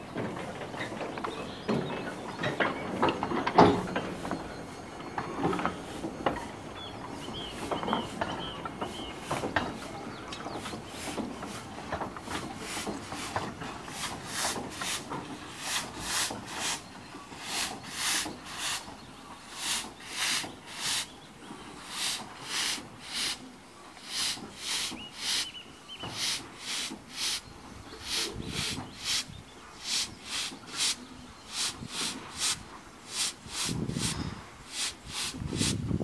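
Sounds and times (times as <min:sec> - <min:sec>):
steam locomotive chuffing: 0:00.0 - 0:36.0.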